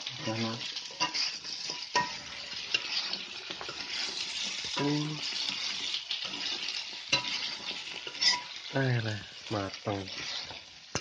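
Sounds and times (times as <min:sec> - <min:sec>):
meat sizzling in a wok: 0:00.0 - 0:11.0
spatula scraping a wok: 0:00.0 - 0:11.0.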